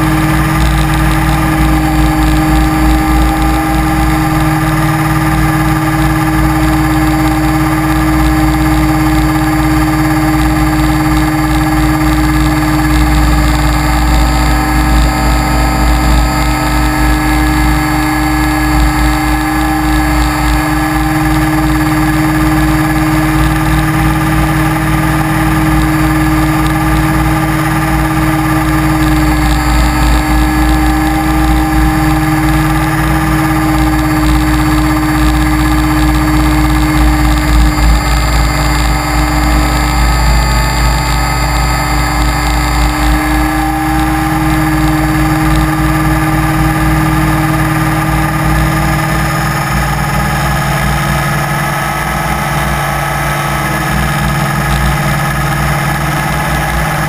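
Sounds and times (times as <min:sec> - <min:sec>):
rc helicopter drone: 0:00.0 - 0:57.0.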